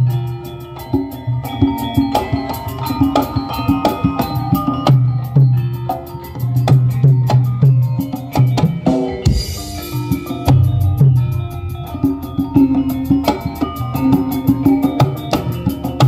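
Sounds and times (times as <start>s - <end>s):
loud music with drums and bass: 0.0s - 16.0s.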